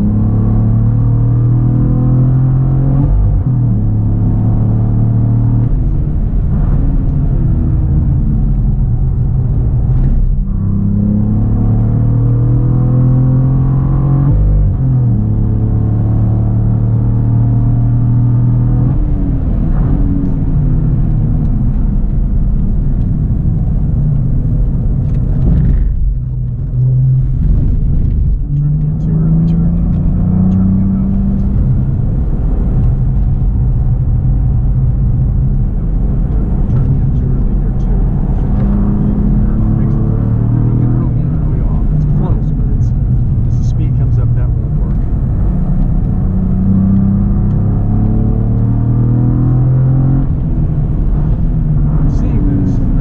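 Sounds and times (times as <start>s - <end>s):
car engine at full throttle: 0.0s - 53.0s.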